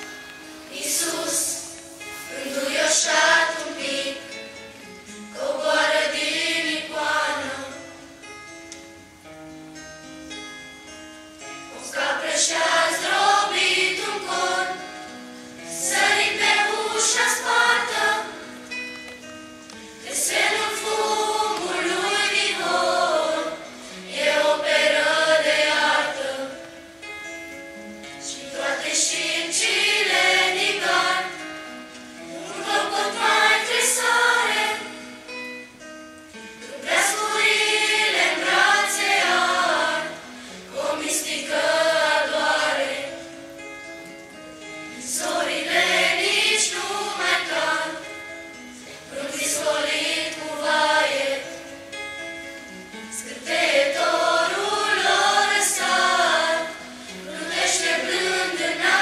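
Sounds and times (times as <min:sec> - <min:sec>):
children's choir singing a carol: 0:00.0 - 0:08.0, 0:11.7 - 0:18.8, 0:20.0 - 0:26.8, 0:28.2 - 0:35.3, 0:36.6 - 0:43.4, 0:44.9 - 0:52.0, 0:52.9 - 0:59.0.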